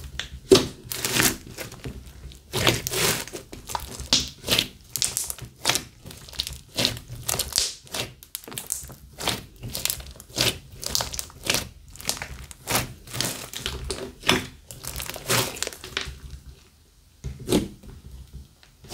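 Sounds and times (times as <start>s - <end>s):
slime squelching and clicking: 0.2s - 16.2s.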